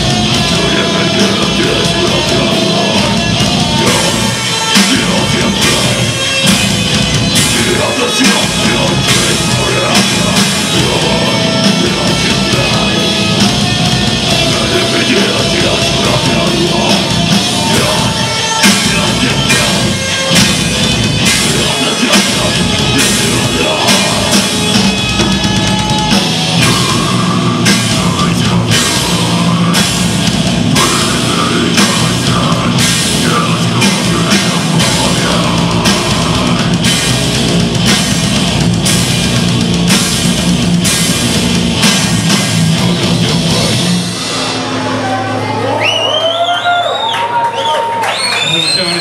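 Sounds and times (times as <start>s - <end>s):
drum kit beat: 0.0s - 45.7s
bass guitar: 0.0s - 49.0s
distorted electric guitars: 0.0s - 49.0s.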